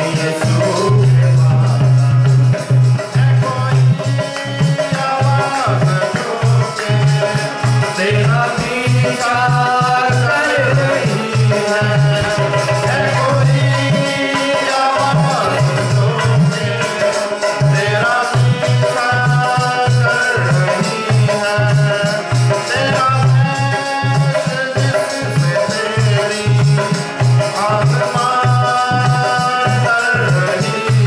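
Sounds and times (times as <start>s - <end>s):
keyboard accompaniment: 0.0s - 31.0s
man singing a hymn: 0.0s - 31.0s.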